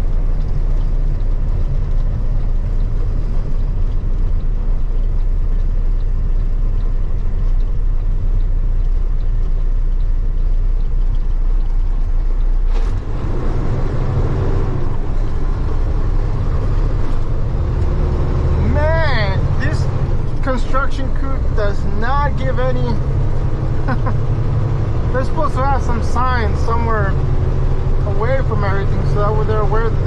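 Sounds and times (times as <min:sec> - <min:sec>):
truck engine and road rumble: 0:00.0 - 0:30.0.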